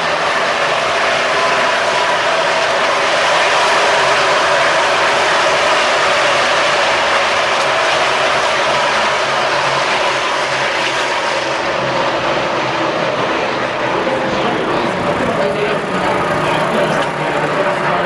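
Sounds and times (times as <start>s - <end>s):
race car engines roaring: 0.0s - 18.0s.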